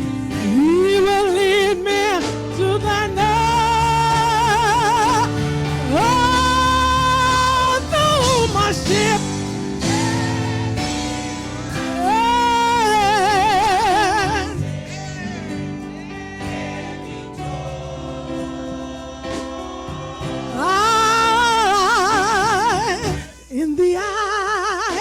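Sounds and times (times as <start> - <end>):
person singing with vibrato: 0.0 - 25.0.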